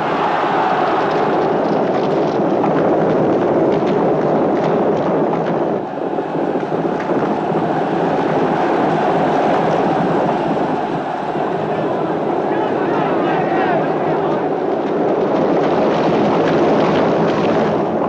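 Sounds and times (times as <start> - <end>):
chariot wheels rumbling: 0.0 - 18.0
horses galloping: 0.0 - 18.0.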